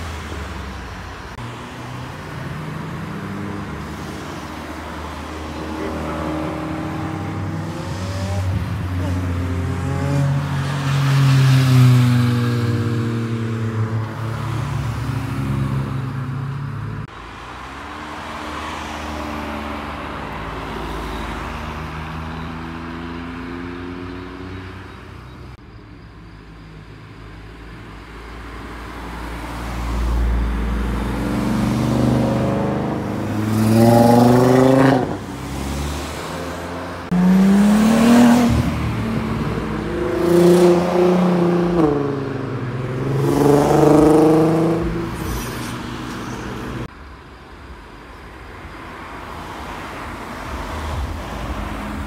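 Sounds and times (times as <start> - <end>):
car engines accelerating hard: 0.0 - 25.2, 28.9 - 46.9.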